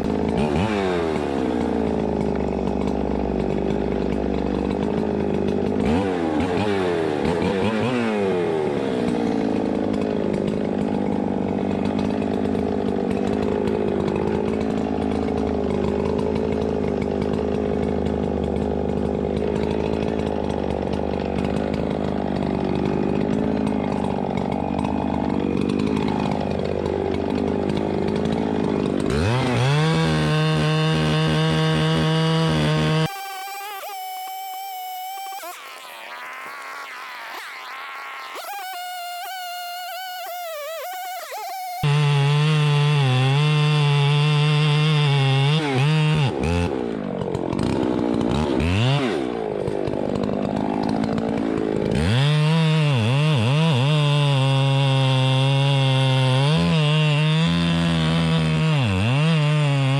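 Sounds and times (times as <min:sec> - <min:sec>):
chainsaw cutting at high throttle: 0:00.0 - 0:59.9.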